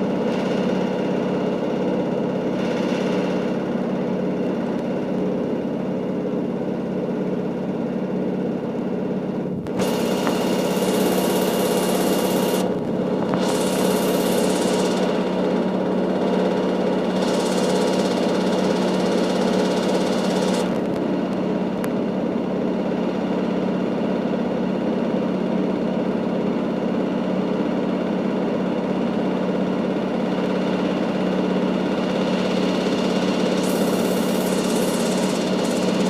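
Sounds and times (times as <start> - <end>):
washing machine spinning: 0.0 - 36.0.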